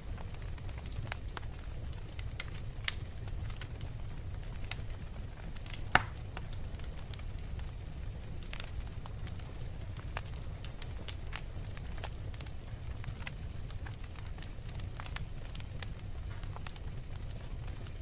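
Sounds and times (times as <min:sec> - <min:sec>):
logs burning in a fireplace: 0:00.0 - 0:18.0.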